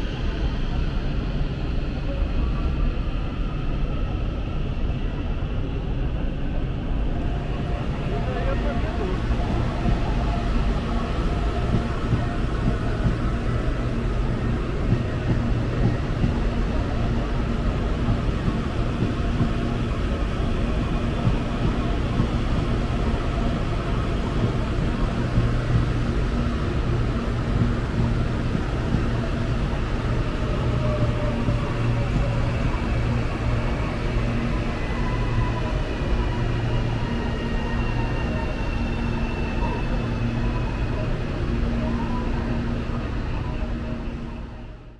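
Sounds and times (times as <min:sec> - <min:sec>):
electric train rumble: 0:00.0 - 0:44.9.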